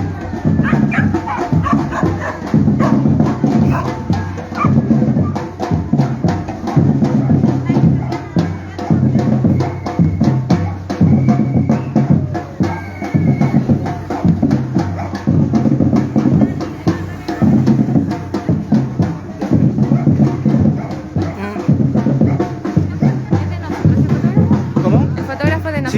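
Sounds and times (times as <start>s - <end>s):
percussion group drumming: 0.0s - 25.9s.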